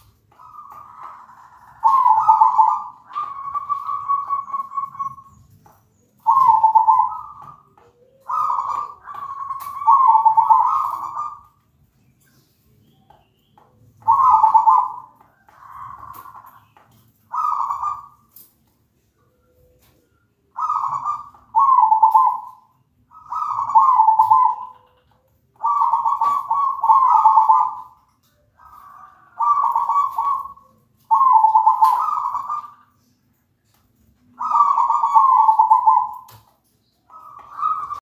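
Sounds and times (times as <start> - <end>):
dove cooing: 0.0 - 5.5, 6.2 - 11.6, 14.0 - 18.4, 19.3 - 33.1, 34.2 - 38.0.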